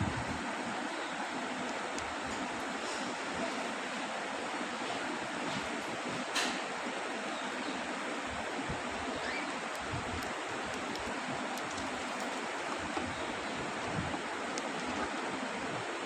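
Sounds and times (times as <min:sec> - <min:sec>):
steady rushing hiss: 0:00.0 - 0:16.0.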